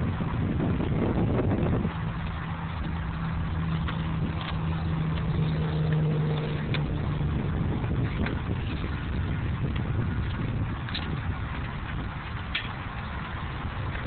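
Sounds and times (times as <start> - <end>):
constant low rumble: 0.0 - 14.0
vehicle engine humming: 0.0 - 14.0.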